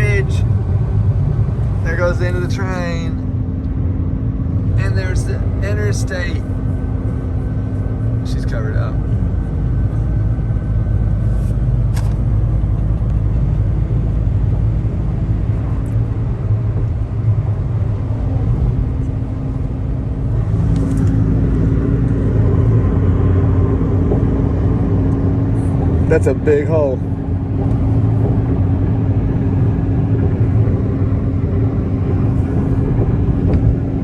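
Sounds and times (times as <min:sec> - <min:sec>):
car engine hum: 0:00.0 - 0:34.0.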